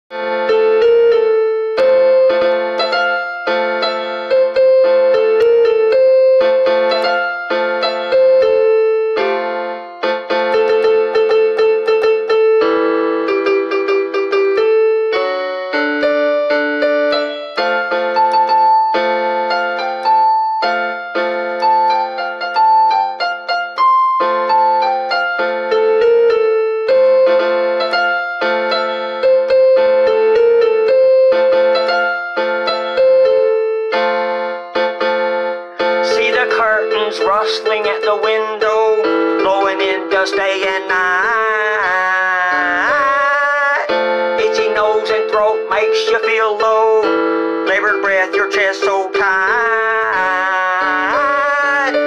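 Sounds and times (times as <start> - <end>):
keyboard playing a melody: 0.1 - 52.0.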